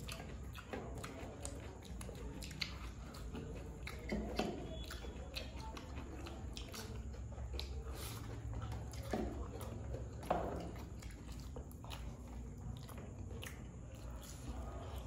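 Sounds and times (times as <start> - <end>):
chewing and wet mouth sounds: 0.0 - 15.0.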